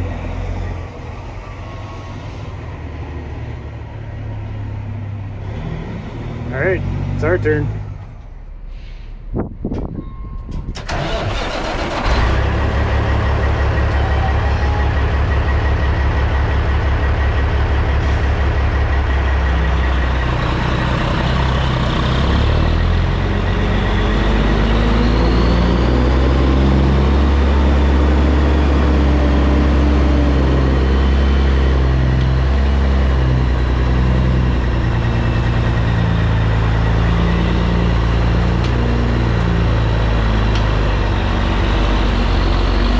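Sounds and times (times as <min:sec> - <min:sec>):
diesel truck engine running: 0:00.0 - 0:42.9.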